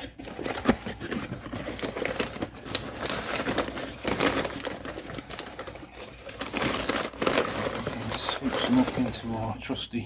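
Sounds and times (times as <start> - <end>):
bag crinkling and clicking: 0.0 - 9.5.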